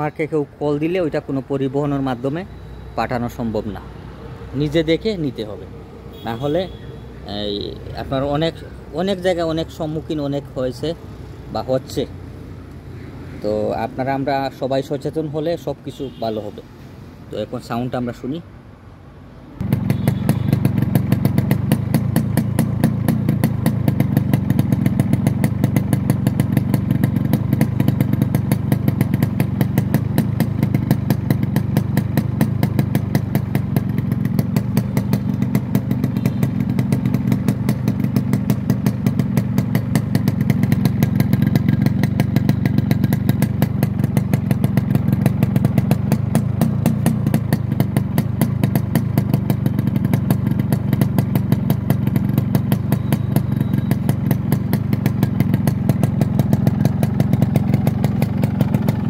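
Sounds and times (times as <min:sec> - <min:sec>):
two-stroke engine idling: 0:00.0 - 0:16.6, 0:19.6 - 0:59.0.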